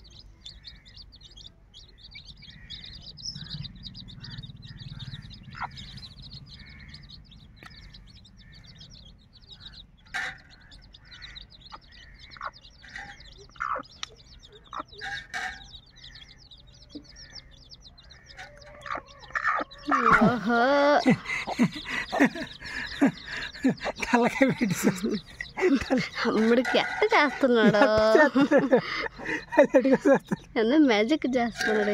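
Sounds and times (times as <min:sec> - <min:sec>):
high-pitched chirping: 0:00.0 - 0:30.5
chicks peeping: 0:00.0 - 0:31.9.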